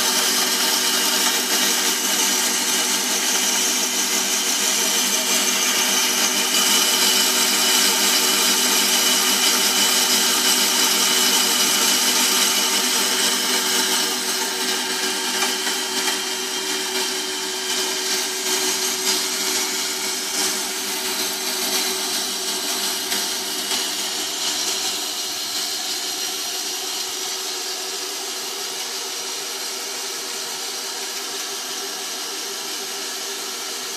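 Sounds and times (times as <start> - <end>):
band saw cutting metal rod: 0.0 - 31.9.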